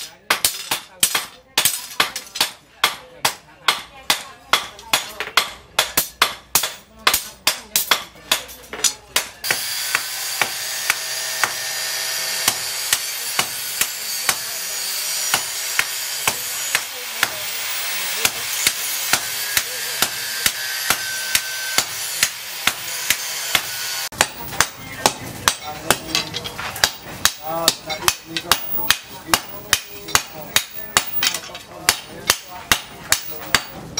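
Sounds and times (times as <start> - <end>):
hammer striking hot steel on anvil: 0.0 - 33.9.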